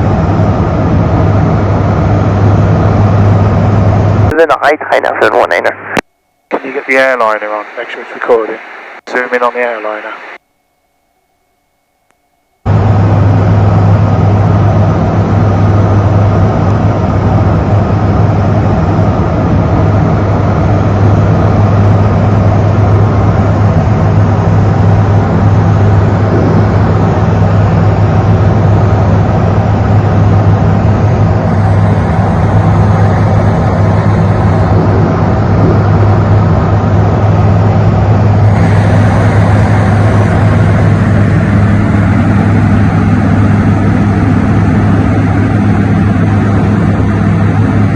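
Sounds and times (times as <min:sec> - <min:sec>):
propeller aircraft engine droning: 0:00.0 - 0:47.9.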